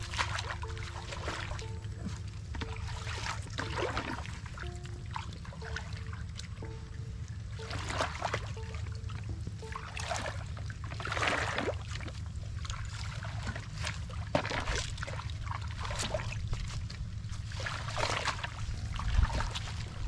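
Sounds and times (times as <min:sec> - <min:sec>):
boots sloshing through water: 0:00.0 - 0:20.0
low rumble: 0:00.0 - 0:20.0.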